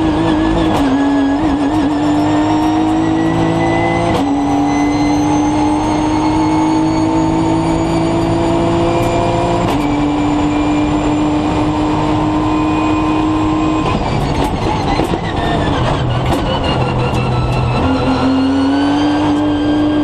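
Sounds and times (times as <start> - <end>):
engine downshifts with sharp cracks: 0.0 - 20.0
race car engine accelerating: 0.0 - 20.0.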